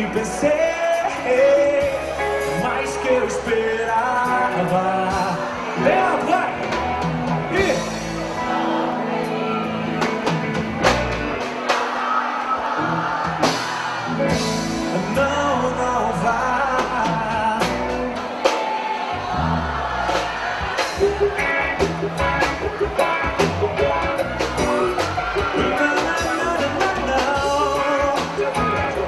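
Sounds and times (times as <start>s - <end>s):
live pop band with singing: 0.0s - 29.0s.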